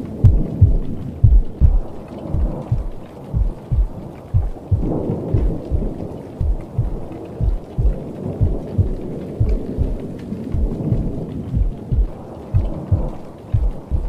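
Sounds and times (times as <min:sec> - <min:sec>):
rumbling thunder: 0:00.0 - 0:14.0
steady rain: 0:00.0 - 0:14.0
short low thumps: 0:00.2 - 0:14.0.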